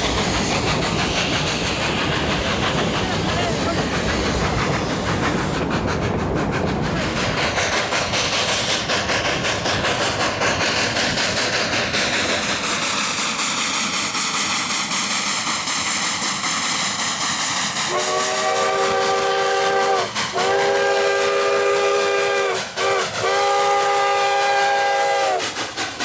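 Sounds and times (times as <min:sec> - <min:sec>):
steam train running: 0:00.0 - 0:26.0.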